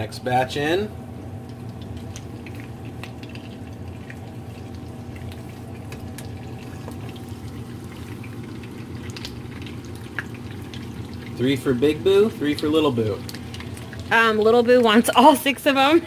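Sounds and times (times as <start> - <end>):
grease crackling and popping: 0.0 - 16.0
food sizzling in hot oil: 1.3 - 15.6.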